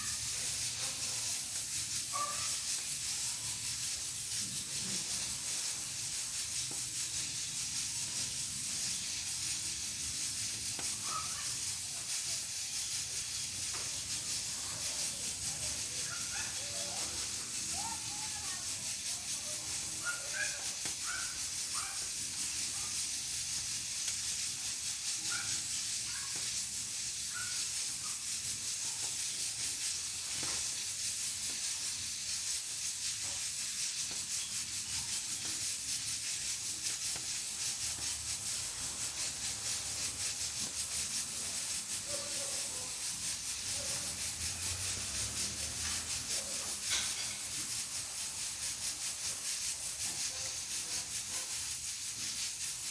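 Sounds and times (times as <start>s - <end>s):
pressure cooker steam hissing: 0.0s - 52.9s.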